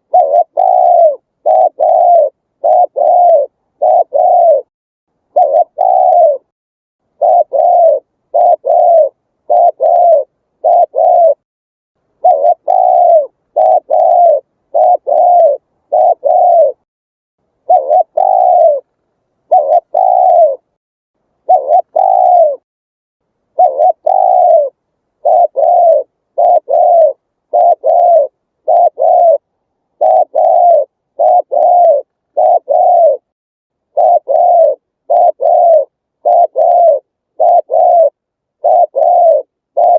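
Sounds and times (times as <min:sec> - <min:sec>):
dove cooing: 0:00.0 - 0:04.7, 0:05.3 - 0:06.5, 0:07.1 - 0:11.4, 0:12.2 - 0:16.8, 0:17.6 - 0:20.7, 0:21.4 - 0:22.6, 0:23.5 - 0:33.3, 0:33.9 - 0:39.9.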